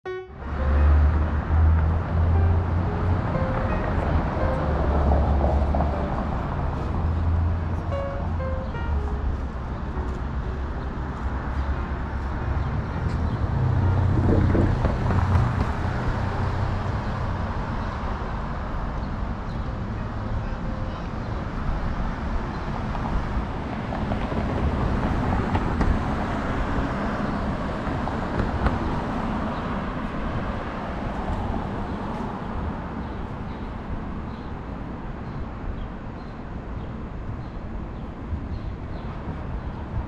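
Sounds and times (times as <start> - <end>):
heavy vehicle rumbling past: 0.1 - 33.2
street traffic hum: 0.1 - 40.0.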